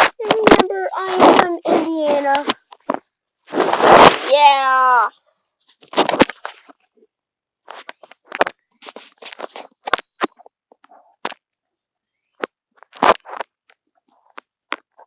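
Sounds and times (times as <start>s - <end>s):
short crunches and rustles: 0.0s - 4.6s, 5.6s - 6.9s, 7.6s - 11.4s, 12.4s - 15.0s.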